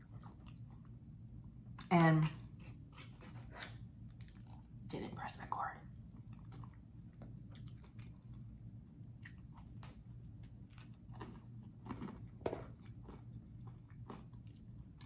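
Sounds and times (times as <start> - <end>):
person chewing food: 0.0 - 4.8, 5.9 - 15.0.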